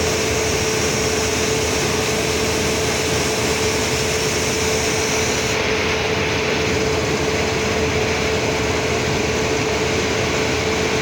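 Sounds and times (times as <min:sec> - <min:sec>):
passenger train running hum: 0:00.0 - 0:11.0.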